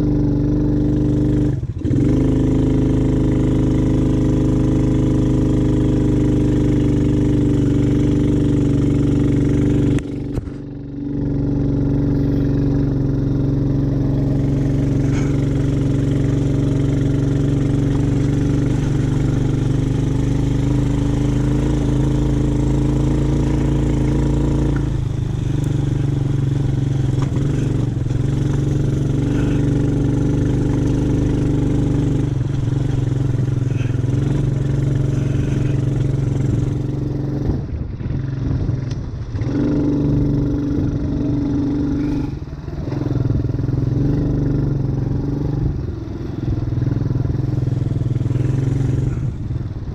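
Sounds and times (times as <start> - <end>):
atv engine running: 0.0 - 49.9.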